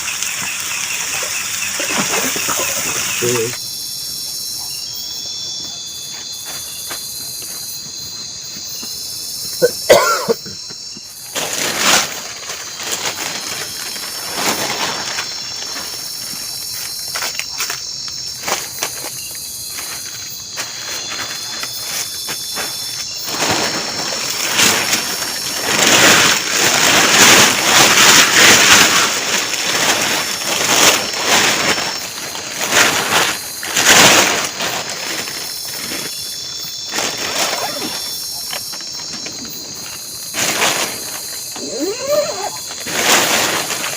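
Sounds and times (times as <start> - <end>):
insects calling: 0.0 - 43.9.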